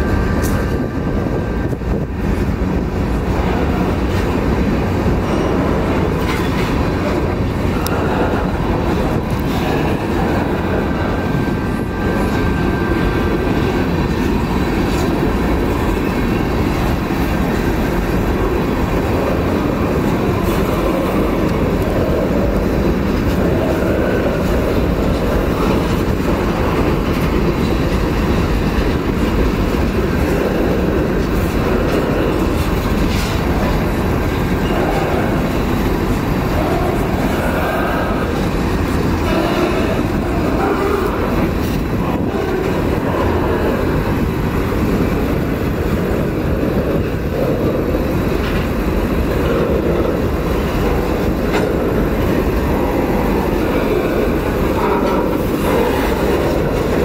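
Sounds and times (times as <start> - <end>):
steel wheels rumbling on rails: 0.0 - 57.0
wheels clicking over rail joints: 0.0 - 57.0.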